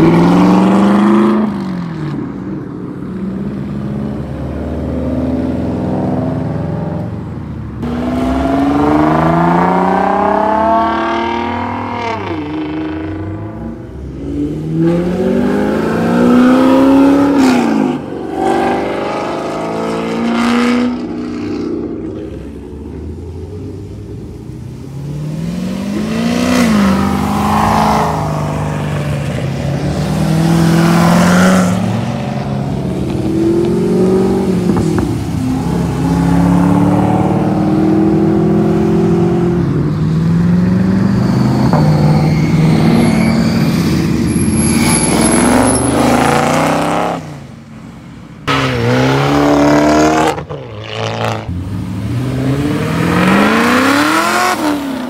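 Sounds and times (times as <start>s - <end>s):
sports cars accelerating hard: 0.0s - 7.2s, 7.8s - 47.5s, 48.4s - 55.0s.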